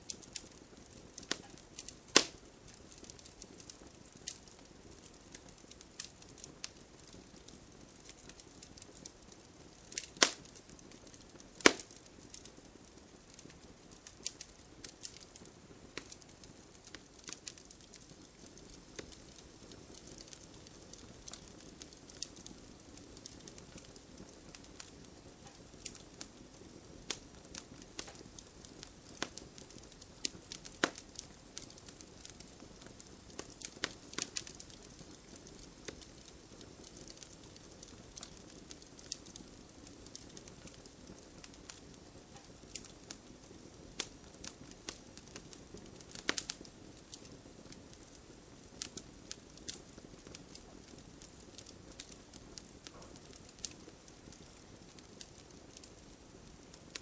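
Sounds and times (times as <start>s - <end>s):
gentle rain patter: 0.0s - 57.0s
wood fire crackling and popping: 0.0s - 57.0s.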